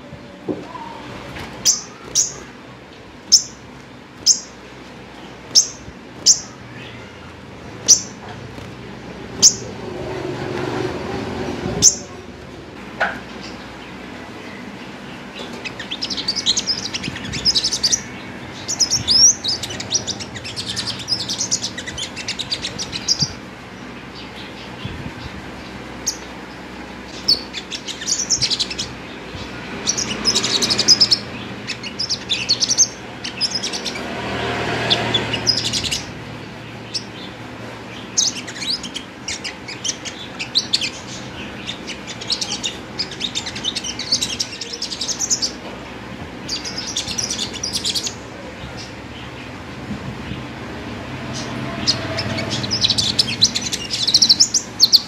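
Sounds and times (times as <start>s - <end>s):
bird twittering and trilling: 0.6s - 12.3s, 13.1s - 55.0s.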